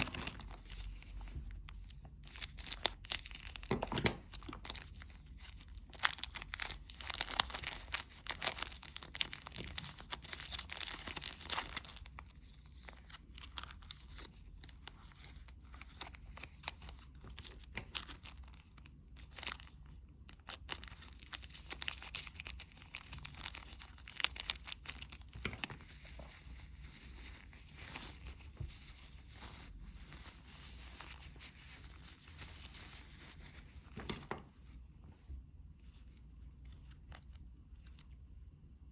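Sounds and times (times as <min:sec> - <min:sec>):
crinkling and rustling: 0:00.0 - 0:38.7.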